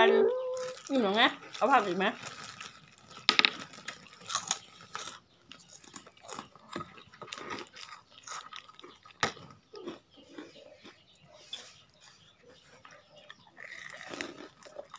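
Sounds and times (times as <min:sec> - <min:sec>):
crunching raw vegetables: 0:00.3 - 0:14.9.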